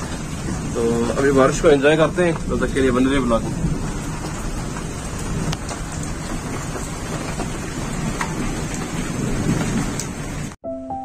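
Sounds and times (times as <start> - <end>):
heavy rain falling: 0.0 - 10.6.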